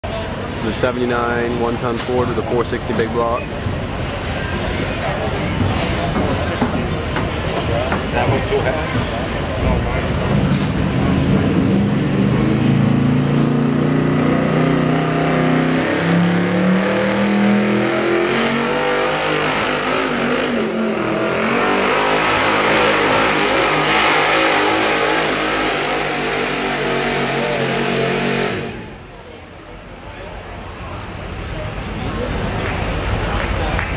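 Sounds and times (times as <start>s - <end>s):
heavy rush of noise: 0.0s - 33.9s
truck engine at full throttle: 0.0s - 33.9s.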